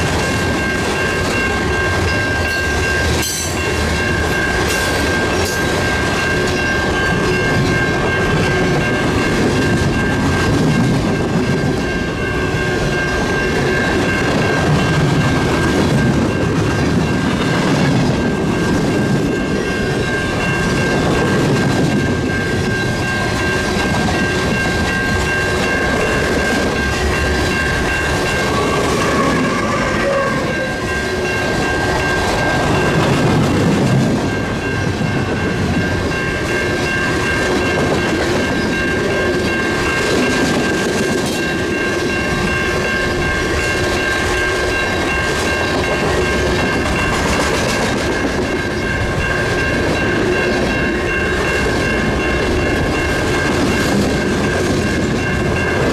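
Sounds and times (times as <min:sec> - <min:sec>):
freight train rumbling on rails: 0:00.0 - 0:55.9.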